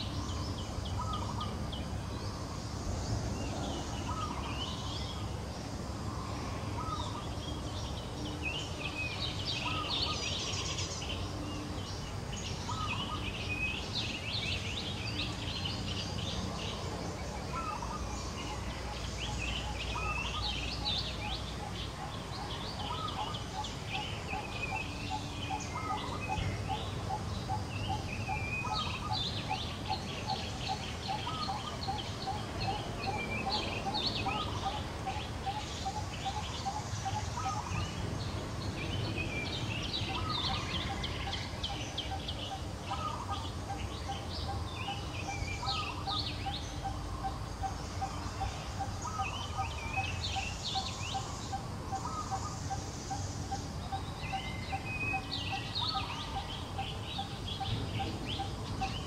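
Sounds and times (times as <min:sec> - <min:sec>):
birds chirping and whistling: 0:00.0 - 0:59.0.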